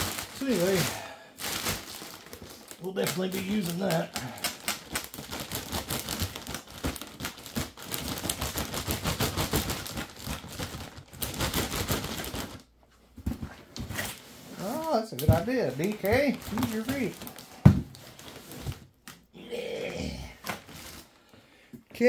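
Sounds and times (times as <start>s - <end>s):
cardboard and packing crinkling: 0.0s - 19.1s, 20.4s - 21.3s.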